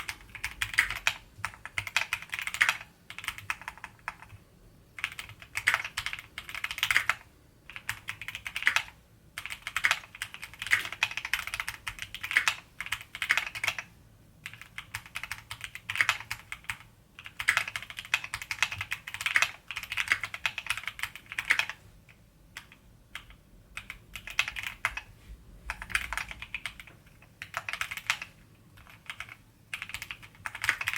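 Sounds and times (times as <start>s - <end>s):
mechanical keyboard typing: 0.0s - 4.4s, 5.0s - 25.1s, 25.7s - 30.9s.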